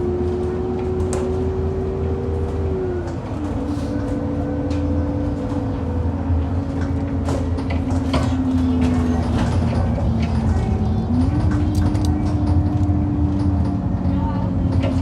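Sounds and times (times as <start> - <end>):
bus engine drone with whine: 0.0 - 15.0.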